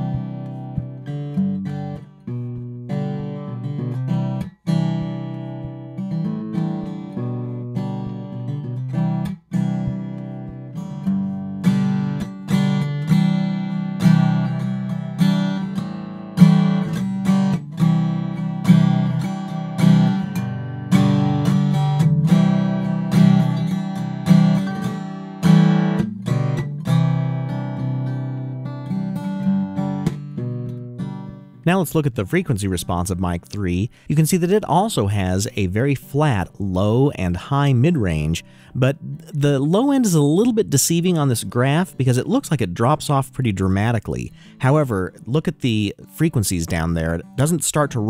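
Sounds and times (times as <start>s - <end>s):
acoustic guitar strumming chords: 0.0s - 48.0s.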